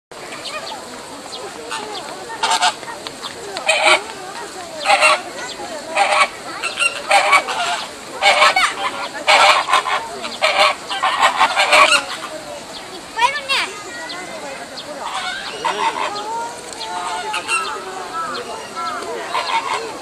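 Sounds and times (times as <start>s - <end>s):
flamingos honking: 0.2s - 20.0s.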